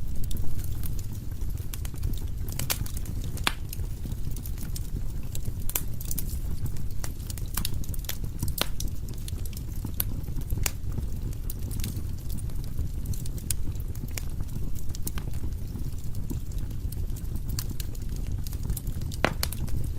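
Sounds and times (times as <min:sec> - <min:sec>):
low rumble of burning: 0:00.0 - 0:19.9
wood fire crackling: 0:00.0 - 0:19.9.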